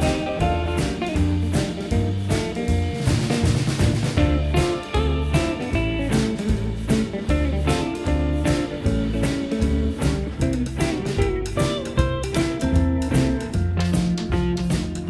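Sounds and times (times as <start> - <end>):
guitar tune with bass and beat: 0.0 - 15.0.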